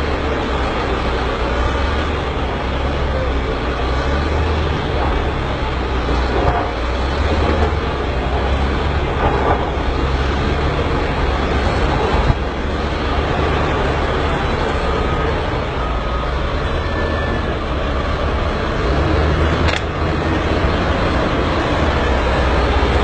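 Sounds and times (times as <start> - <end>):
heavy diesel engines rumbling: 0.0 - 23.0.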